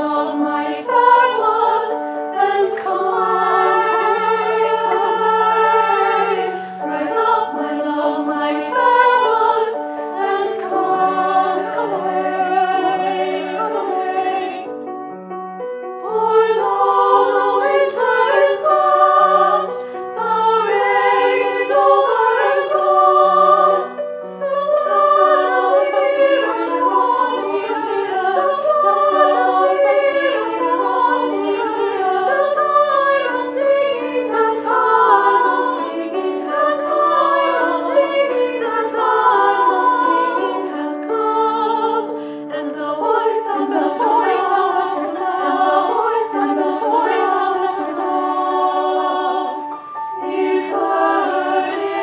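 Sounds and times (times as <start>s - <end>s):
women's chorus singing: 0.0s - 14.9s, 15.9s - 52.0s
piano accompaniment: 0.0s - 52.0s.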